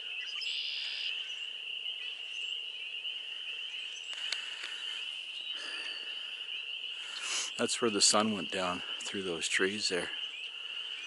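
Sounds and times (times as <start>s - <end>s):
frogs trilling: 0.0s - 11.0s.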